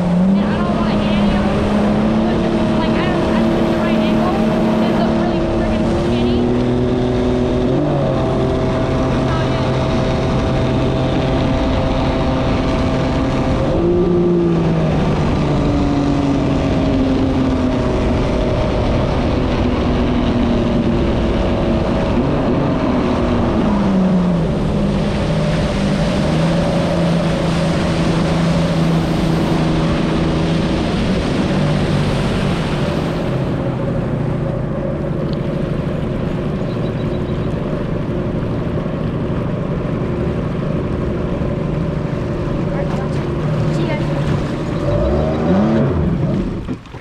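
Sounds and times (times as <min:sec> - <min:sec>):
jet ski engine: 0:00.0 - 0:47.0
water and wind rushing: 0:00.0 - 0:47.0.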